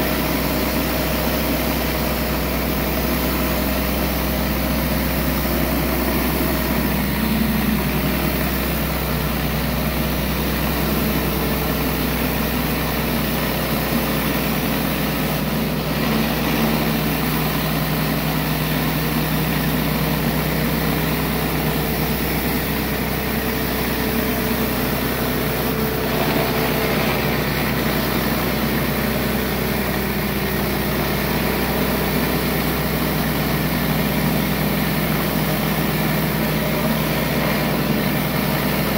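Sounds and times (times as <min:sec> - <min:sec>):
pressure washer running: 0:00.0 - 0:38.9.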